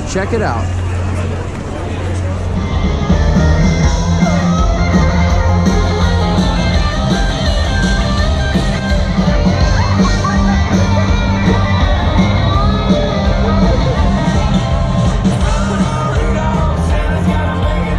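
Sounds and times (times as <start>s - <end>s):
heavy bass line: 0.0s - 17.9s
live rock band with guitar: 0.6s - 17.9s.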